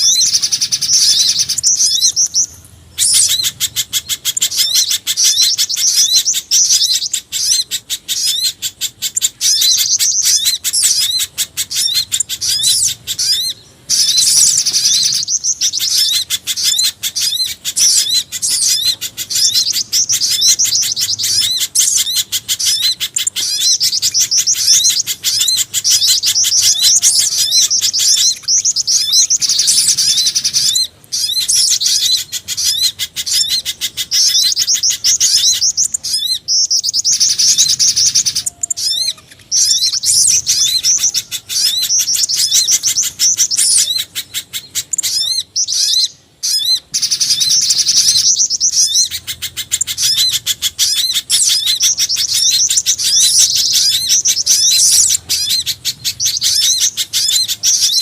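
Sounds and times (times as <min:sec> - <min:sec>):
rapid high-pitched bird chirping: 0:00.0 - 0:58.0.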